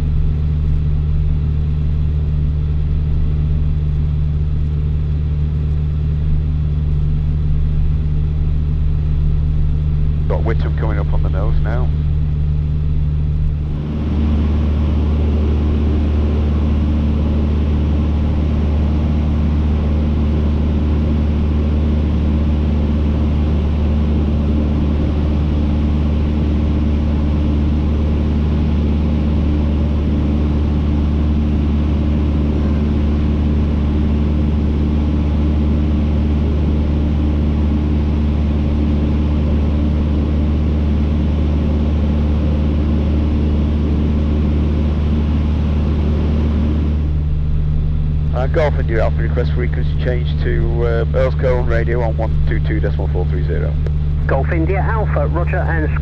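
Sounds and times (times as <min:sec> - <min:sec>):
light aircraft engine droning: 0:00.0 - 0:56.0.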